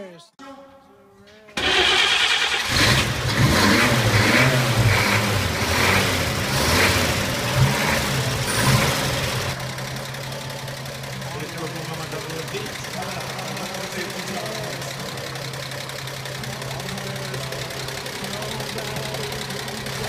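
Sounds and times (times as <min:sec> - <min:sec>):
pickup truck engine running: 0:01.6 - 0:20.0.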